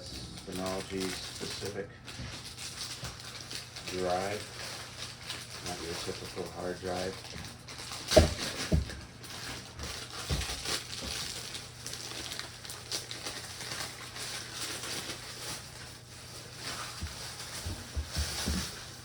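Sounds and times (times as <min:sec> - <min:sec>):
plastic rustling and crinkling: 0:00.0 - 0:19.0.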